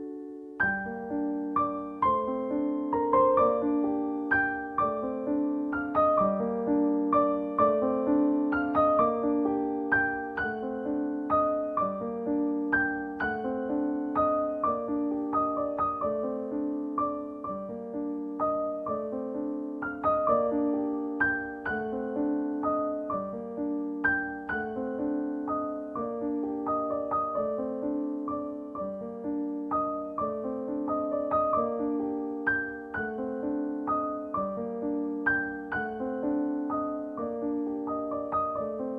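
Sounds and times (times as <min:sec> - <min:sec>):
gentle piano music: 0:00.0 - 0:38.9.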